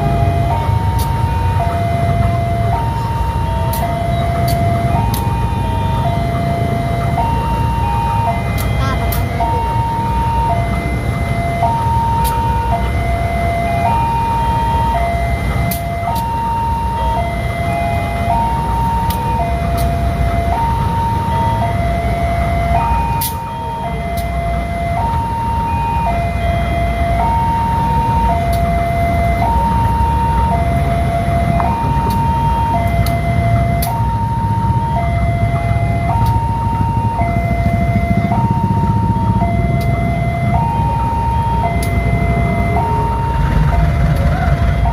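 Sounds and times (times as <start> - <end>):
two-tone crossing alarm: 0.0 - 44.9.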